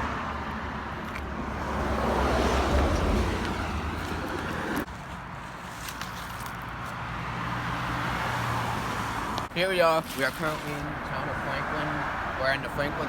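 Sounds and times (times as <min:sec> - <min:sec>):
car passing with tyre hiss: 0:00.0 - 0:13.0.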